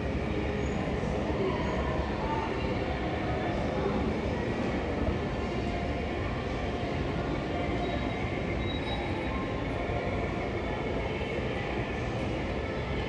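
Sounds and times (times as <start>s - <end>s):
shopping centre background rumble: 0.0s - 13.0s.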